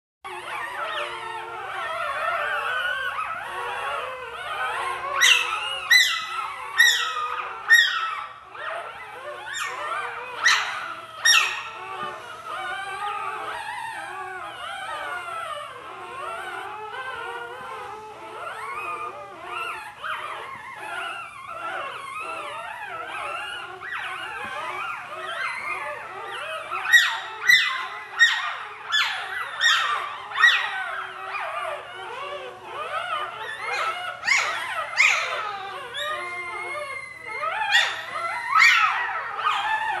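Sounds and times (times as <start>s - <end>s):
newborn puppies whimpering: 0.3s - 40.0s.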